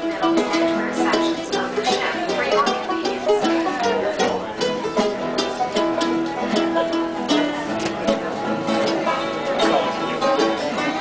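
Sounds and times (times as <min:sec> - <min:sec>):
plucked-string lead notes: 0:00.0 - 0:11.0
strummed guitar: 0:00.0 - 0:11.0.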